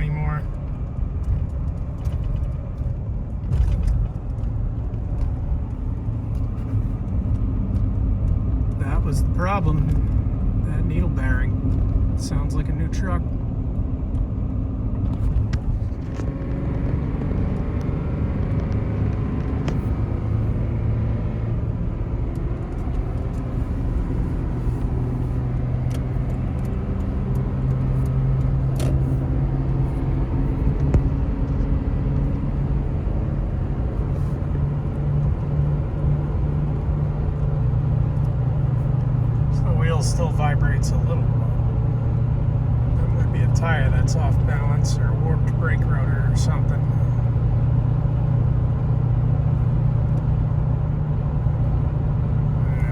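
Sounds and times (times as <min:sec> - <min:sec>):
engine and tyre drone: 0:00.0 - 0:52.9.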